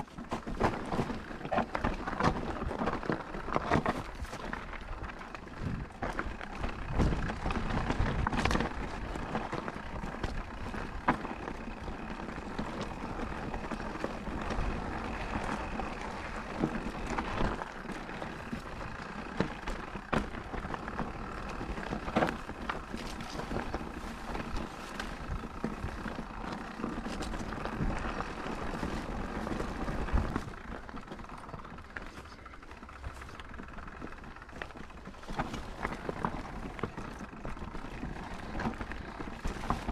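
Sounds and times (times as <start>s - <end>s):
bike knocking and rattling: 0.0s - 39.9s
bike tyres rolling on dirt: 0.0s - 39.9s.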